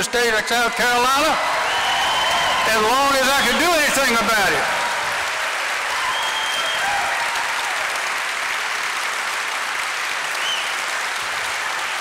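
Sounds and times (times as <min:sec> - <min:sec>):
audience applauding: 0:00.2 - 0:12.0.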